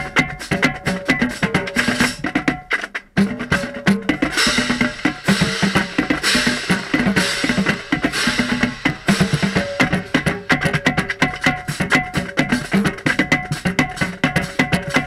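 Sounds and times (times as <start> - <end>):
bass drums: 0.0 - 15.0
snare drums: 0.0 - 15.0
tenor drums: 0.0 - 15.0.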